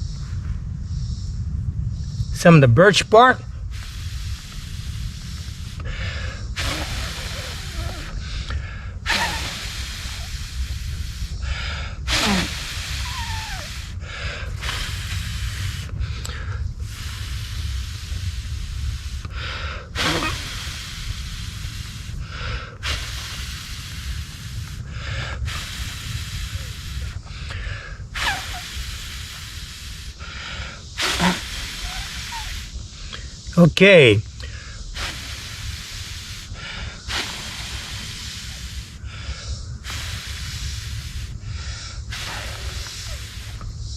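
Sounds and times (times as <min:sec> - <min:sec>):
steady low rumble: 0:00.0 - 0:43.9
person blowing on fire: 0:03.6 - 0:43.9.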